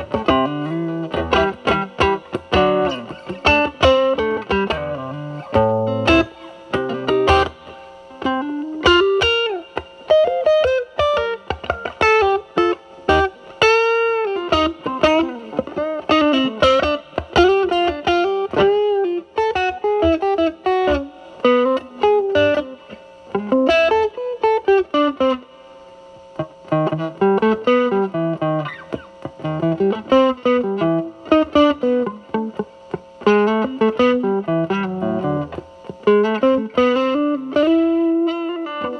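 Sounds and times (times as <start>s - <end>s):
fuzzed electric guitar lead: 0.0s - 38.9s.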